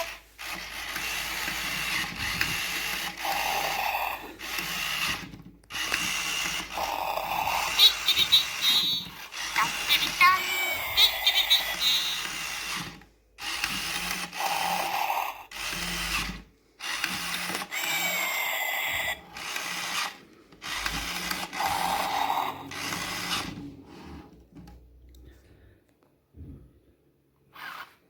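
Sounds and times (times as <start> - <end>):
toy motor whirring: 0.0 - 24.3, 27.5 - 28.0.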